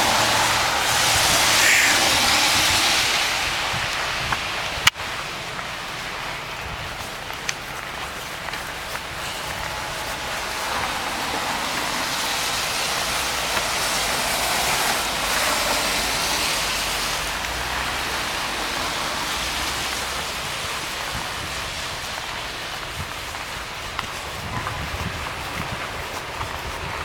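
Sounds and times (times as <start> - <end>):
vehicle tyre hiss on snow: 0.0 - 27.0.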